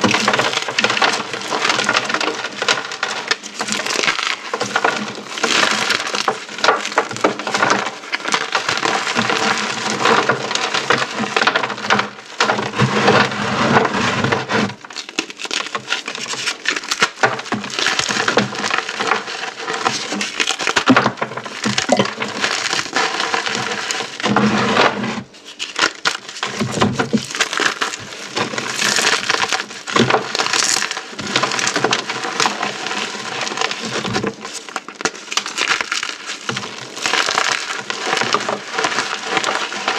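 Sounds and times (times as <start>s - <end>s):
beads and chalk being crushed: 0.0s - 12.8s, 14.7s - 39.9s.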